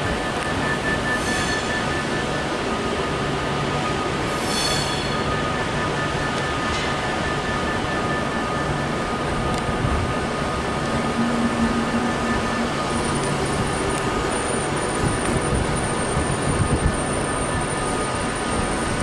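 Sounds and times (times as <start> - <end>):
thin whining tones: 0.0 - 19.0
train mechanical rush: 0.0 - 19.0
train pulling out: 0.0 - 19.0.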